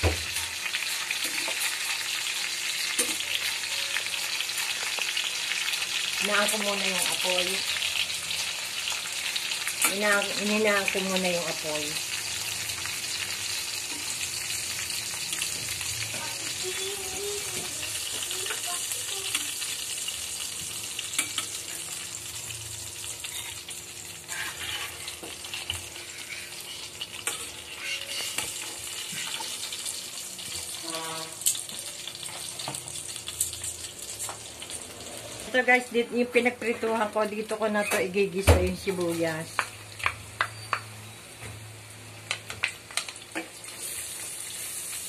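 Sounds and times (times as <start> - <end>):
chicken sizzling in pan: 0.0 - 35.9, 38.7 - 45.0.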